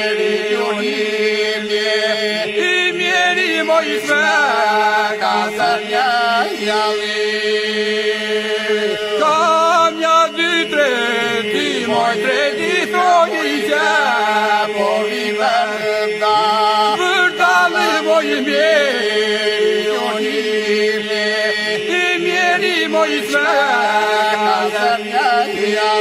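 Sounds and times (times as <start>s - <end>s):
ornamented lead voice singing: 0.0s - 26.0s
sung drone: 0.0s - 26.0s.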